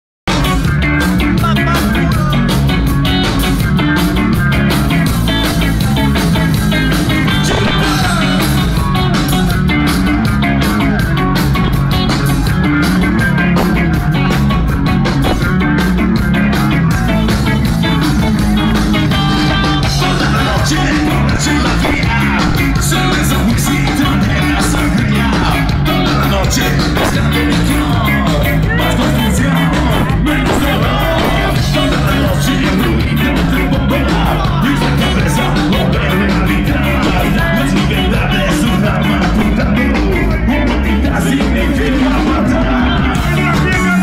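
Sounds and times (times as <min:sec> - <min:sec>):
punk rock band playing live: 0:00.3 - 0:44.0.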